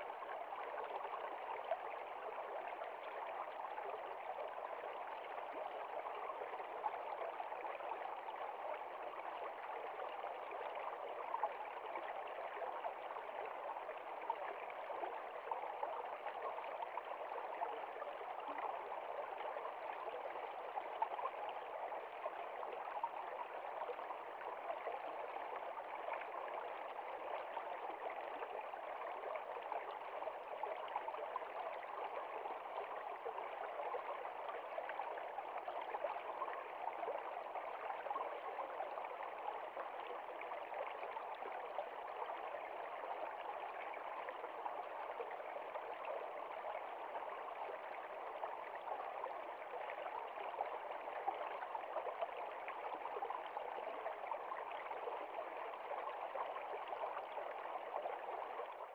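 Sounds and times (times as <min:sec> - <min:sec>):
creek flowing over stones: 0:00.0 - 0:58.9.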